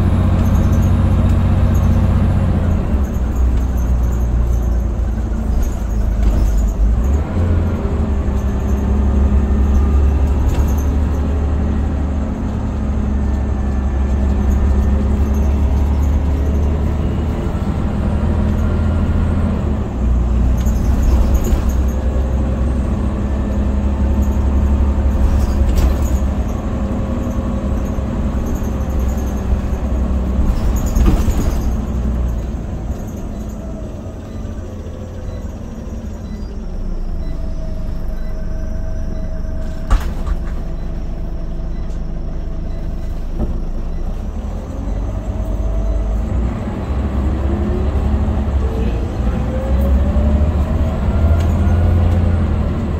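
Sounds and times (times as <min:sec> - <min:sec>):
bus body rattling: 0:00.0 - 0:52.9
bus engine droning: 0:00.0 - 0:52.9.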